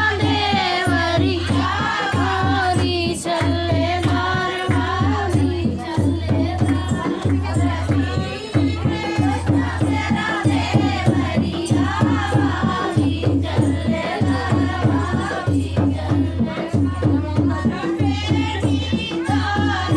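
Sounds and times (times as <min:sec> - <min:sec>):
steady drum beat: 0:00.0 - 0:19.9
women singing folk song: 0:00.0 - 0:19.9.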